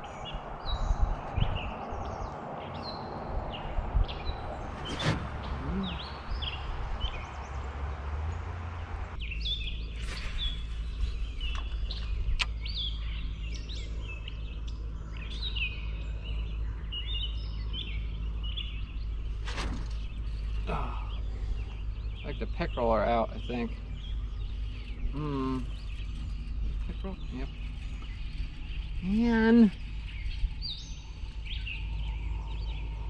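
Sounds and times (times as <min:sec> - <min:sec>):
low outdoor rumble: 0:00.0 - 0:33.0
small birds chirping: 0:00.0 - 0:33.0.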